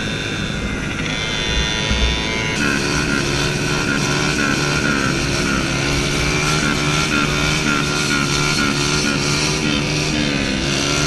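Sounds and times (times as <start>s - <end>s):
small motorbike engines running: 0.0s - 11.0s.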